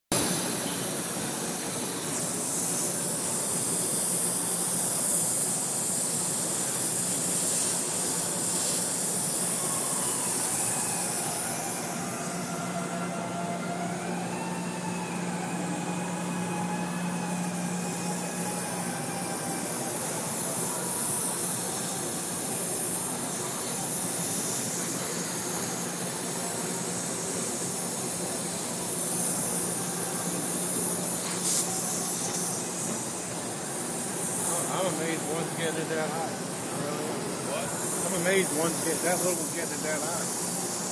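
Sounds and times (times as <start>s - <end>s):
torch flame hissing: 0.1s - 40.9s.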